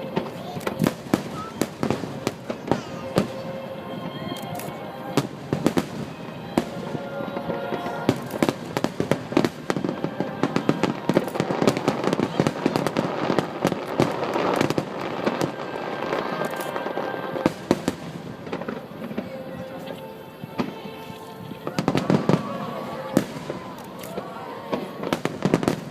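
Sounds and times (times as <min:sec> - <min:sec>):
fireworks bursting and crackling: 0:00.0 - 0:25.9.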